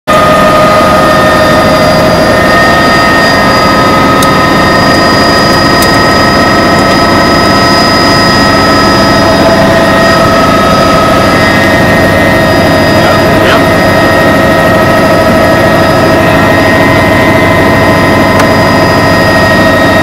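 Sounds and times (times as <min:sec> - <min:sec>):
helicopter engine and rotor: 0:00.1 - 0:20.0.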